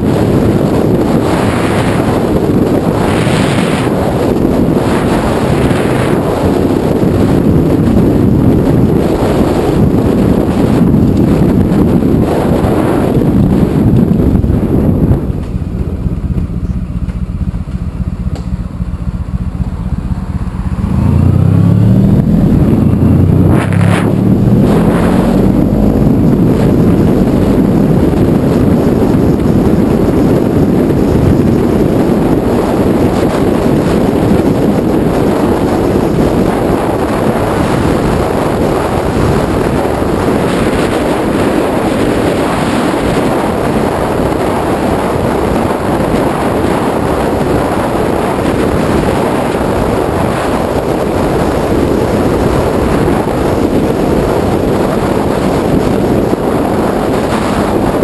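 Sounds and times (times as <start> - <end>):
motorcycle engine accelerating: 0.0 - 58.0
wind rushing: 0.0 - 58.0.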